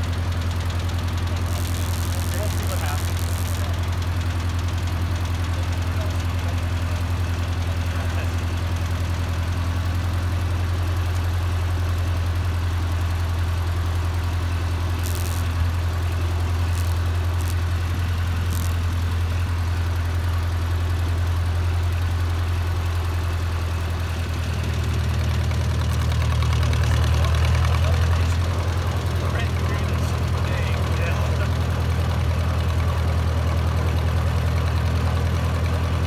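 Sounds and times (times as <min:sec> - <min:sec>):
tractor engine idling: 0:00.0 - 0:36.0.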